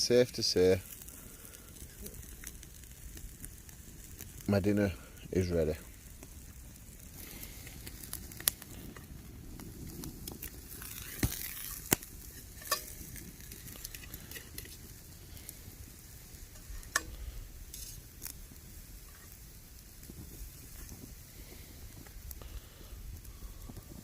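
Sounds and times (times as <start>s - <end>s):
food sizzling on a grill: 0.0s - 24.0s.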